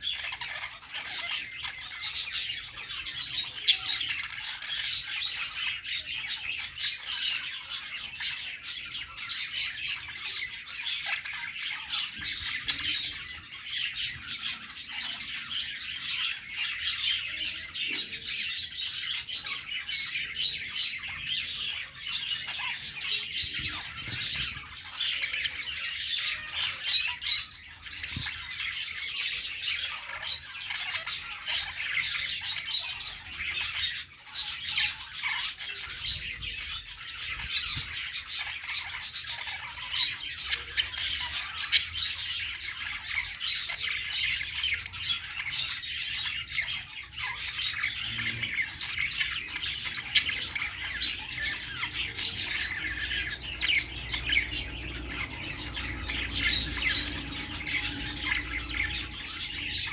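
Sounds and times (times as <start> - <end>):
budgerigars chattering and warbling: 0.0 - 59.9.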